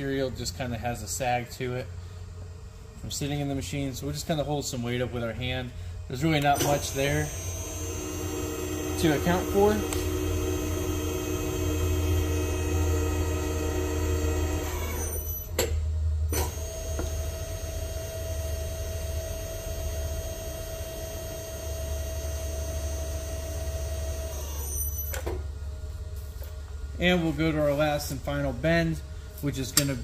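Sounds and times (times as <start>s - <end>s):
tube bender machine humming and whining: 0.0s - 30.0s.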